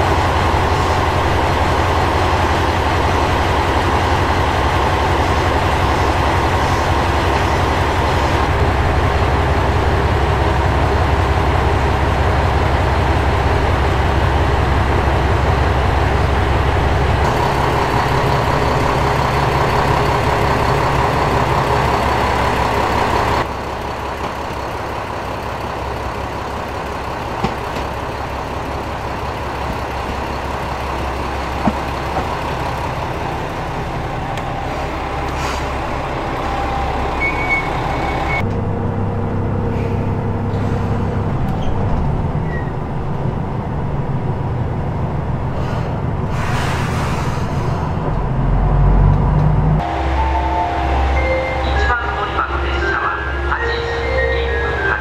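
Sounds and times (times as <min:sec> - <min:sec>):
station ambience: 0:00.0 - 0:46.3, 0:48.0 - 0:55.0
diesel engine hum: 0:00.0 - 0:55.0.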